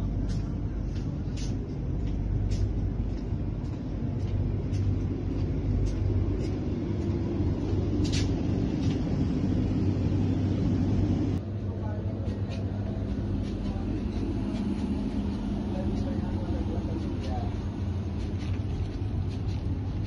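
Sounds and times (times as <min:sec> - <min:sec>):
light footsteps: 0:00.0 - 0:11.2, 0:11.9 - 0:20.0
train coach low hum: 0:00.0 - 0:20.0.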